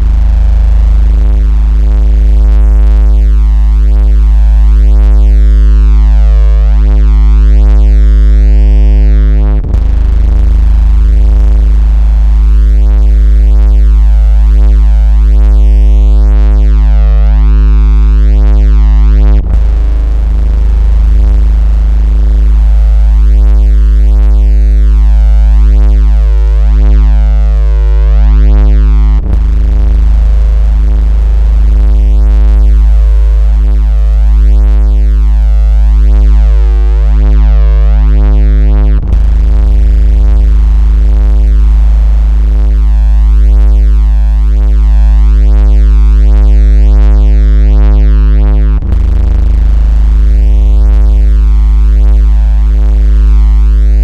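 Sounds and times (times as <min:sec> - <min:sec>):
buzzing synthetic bass tone: 0:00.0 - 0:54.0.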